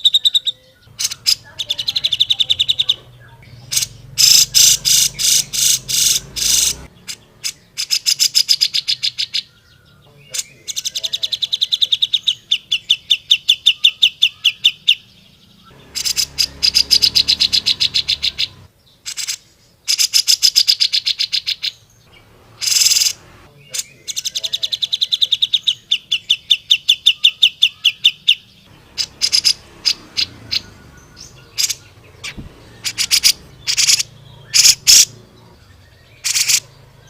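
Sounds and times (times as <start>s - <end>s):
bulbul singing fast trills: 0.0s - 37.0s.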